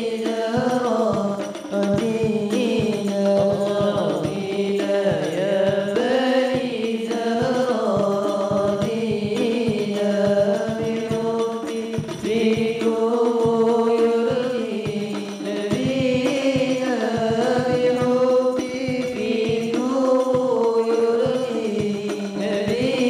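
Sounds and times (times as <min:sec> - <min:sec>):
frame drums beating: 0:00.0 - 0:23.0
young male voices singing: 0:00.0 - 0:23.0.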